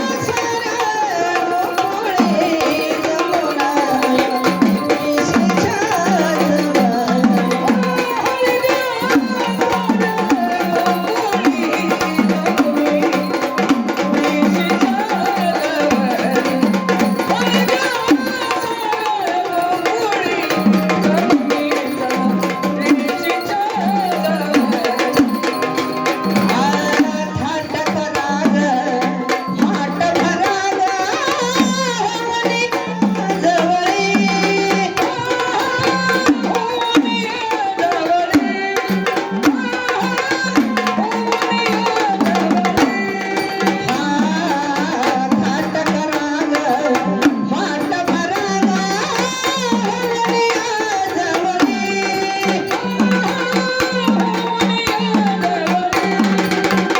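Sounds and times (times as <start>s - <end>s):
drums beating a steady rhythm: 0.0s - 56.9s.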